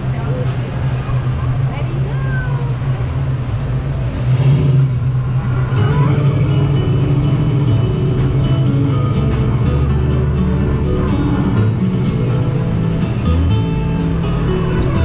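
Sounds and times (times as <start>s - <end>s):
faint music: 0.0s - 15.0s
ride vehicle hum and rumble: 0.0s - 15.0s.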